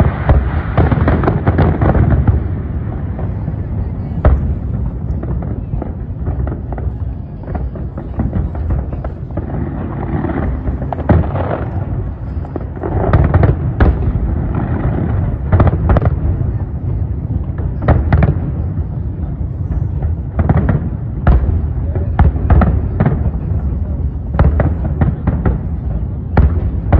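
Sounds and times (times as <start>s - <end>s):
fireworks bangs and crackles: 0.0s - 26.9s
sharp fireworks reports: 0.0s - 26.9s.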